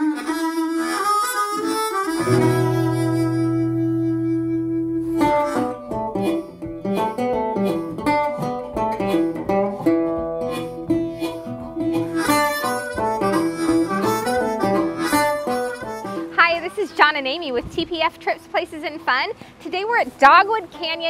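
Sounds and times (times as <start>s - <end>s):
harmonica tones: 0.0s - 19.0s
plucked string notes: 0.1s - 18.6s.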